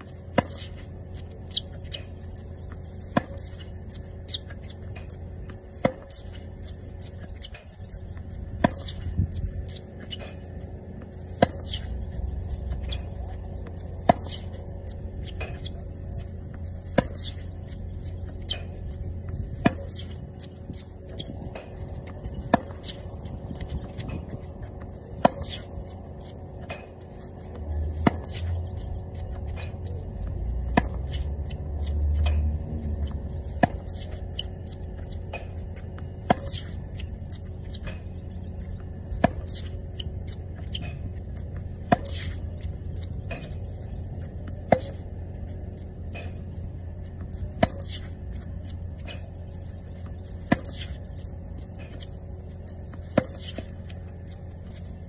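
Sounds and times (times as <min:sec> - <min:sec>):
tennis ball bouncing: 0:00.0 - 0:55.0
racket hitting tennis ball: 0:00.1 - 0:49.3, 0:50.0 - 0:55.0.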